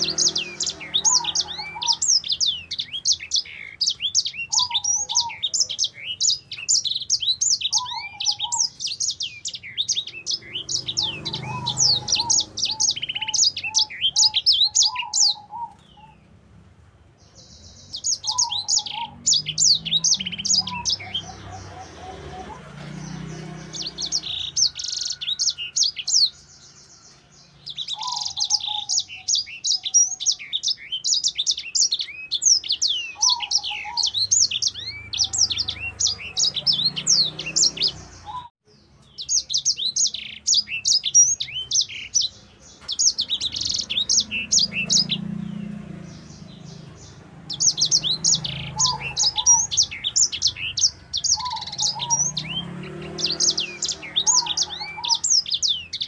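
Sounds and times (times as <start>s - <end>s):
finch singing rapid chirps and trills: 0.0s - 16.4s, 17.2s - 56.0s.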